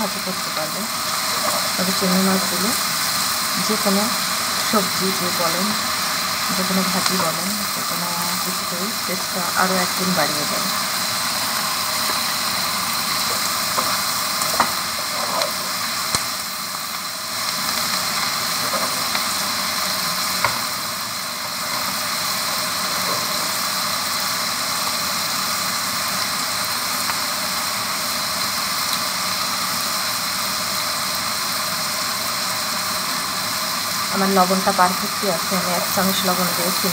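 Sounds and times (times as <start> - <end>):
food sizzling in wok: 0.0 - 36.9.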